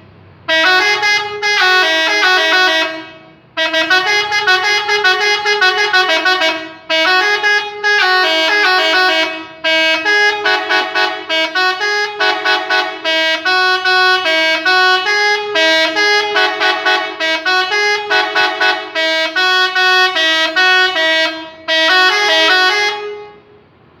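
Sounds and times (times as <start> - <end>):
musical air horn playing tune: 0.5 - 23.6.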